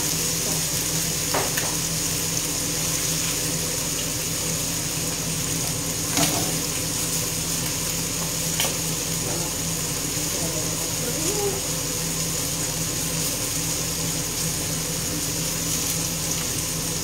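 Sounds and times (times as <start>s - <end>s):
deep-frying sizzle in oil: 0.0s - 17.0s.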